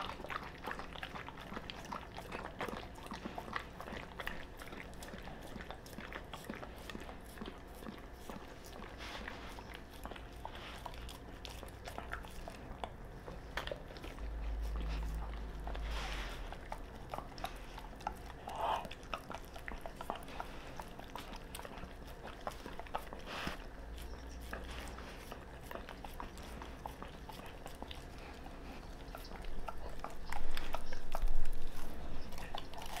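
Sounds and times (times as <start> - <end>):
dog chewing with crunching: 0.0 - 33.0.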